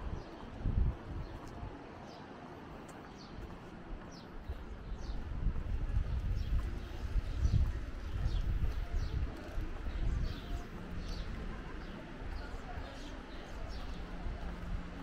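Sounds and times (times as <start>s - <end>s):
low gusting rumble: 0.0s - 1.7s, 3.9s - 15.0s
small birds chirping: 1.2s - 14.8s.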